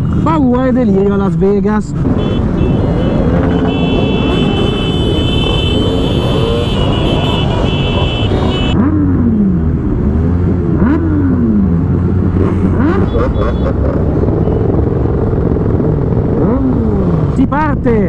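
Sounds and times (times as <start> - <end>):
motorcycle revving: 0.0 - 18.0.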